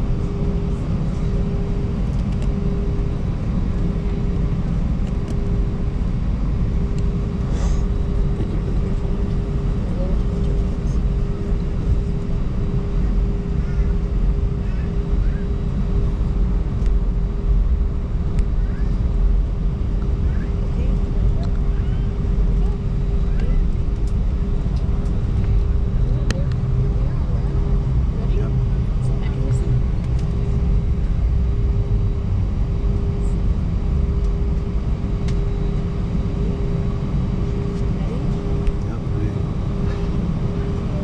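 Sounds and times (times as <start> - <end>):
jet engines rumbling: 0.0 - 41.0
mid-pitched drone: 0.0 - 41.0.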